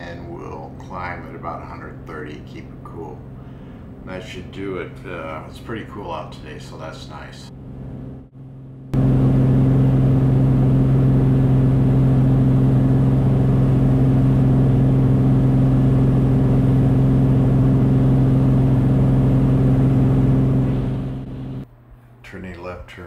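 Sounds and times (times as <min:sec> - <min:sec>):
propeller plane engine droning: 0:00.0 - 0:21.7.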